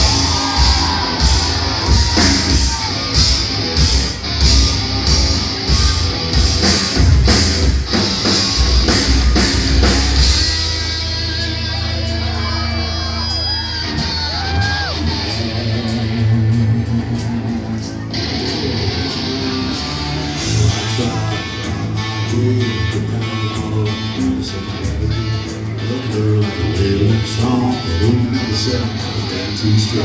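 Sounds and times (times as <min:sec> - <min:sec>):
bass guitar: 0:00.0 - 0:30.0
distorted electric guitars: 0:00.0 - 0:30.0
drums: 0:00.0 - 0:30.0.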